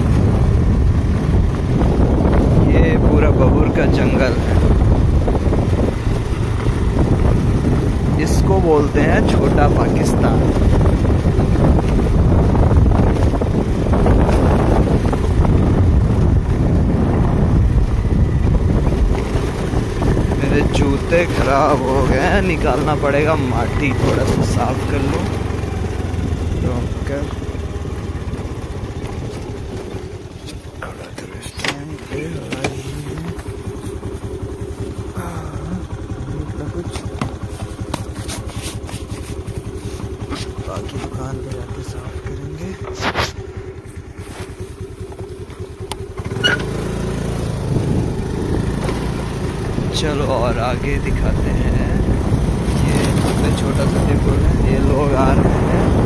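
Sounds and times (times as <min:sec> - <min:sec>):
scooter engine running: 0:00.0 - 0:56.0
wind noise on microphone: 0:00.0 - 0:56.0.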